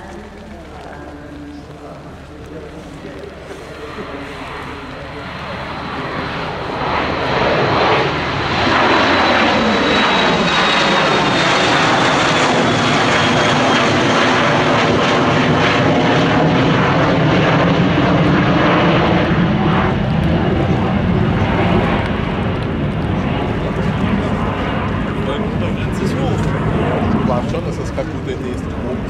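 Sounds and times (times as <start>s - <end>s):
high jet whine: 0.0s - 29.0s
jet engines roaring: 0.0s - 29.0s.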